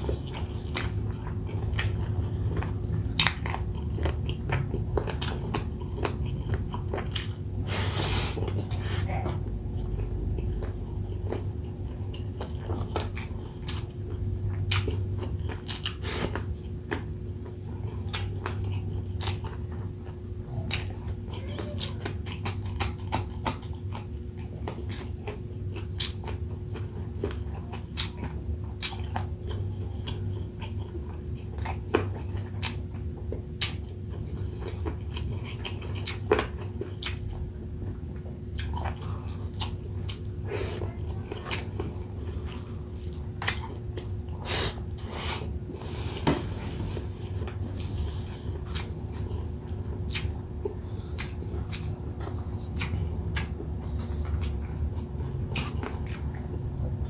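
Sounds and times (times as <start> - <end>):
chewing and biting: 0.0 - 57.0
steady low hum: 0.0 - 57.0.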